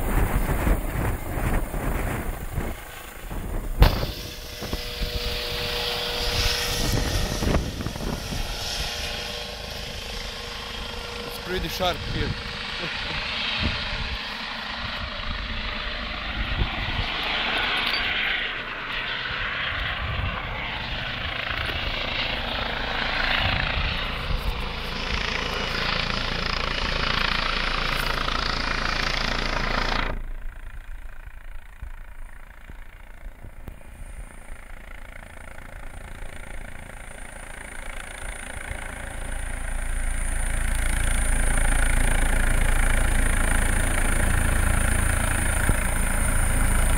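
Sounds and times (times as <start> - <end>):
distant helicopter drone: 0.0 - 46.9
high steady whine: 0.0 - 46.9.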